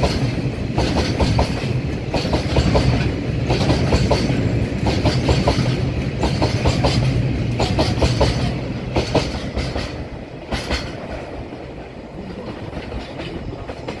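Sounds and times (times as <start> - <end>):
train wheels clattering over rail joints: 0.0 - 14.0.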